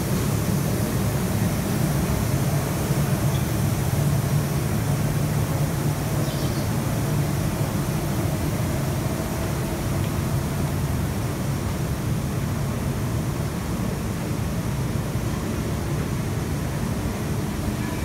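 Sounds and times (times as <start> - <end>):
low rumble of factory machinery: 0.0 - 18.0.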